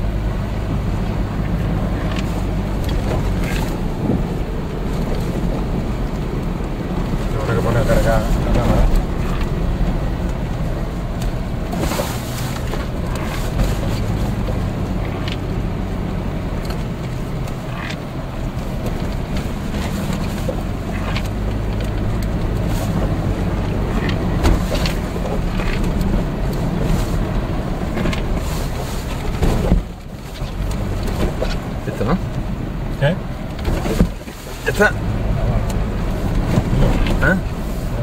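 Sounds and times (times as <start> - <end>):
engine and tyre rumble: 0.0 - 38.0.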